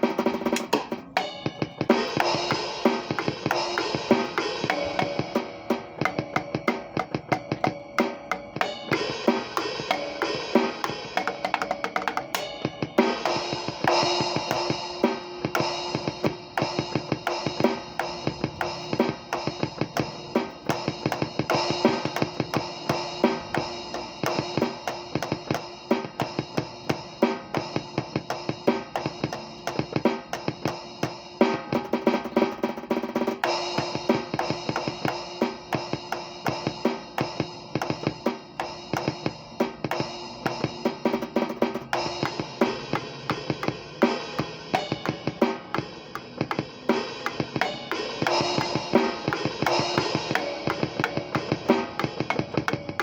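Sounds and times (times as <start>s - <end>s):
drum kit playing: 0.0s - 53.0s.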